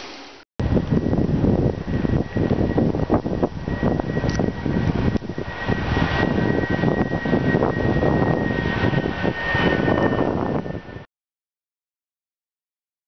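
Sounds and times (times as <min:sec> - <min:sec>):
rumbling running noise: 0:00.0 - 0:11.1.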